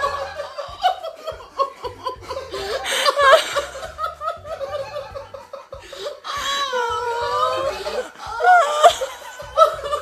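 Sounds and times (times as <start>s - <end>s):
woman laughing and crying: 0.0s - 10.0s.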